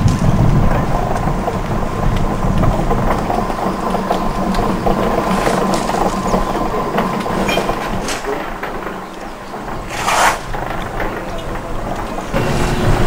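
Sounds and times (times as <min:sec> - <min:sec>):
small rattles and clicks: 0:00.0 - 0:12.4
heavy machinery engine drone: 0:00.0 - 0:13.0.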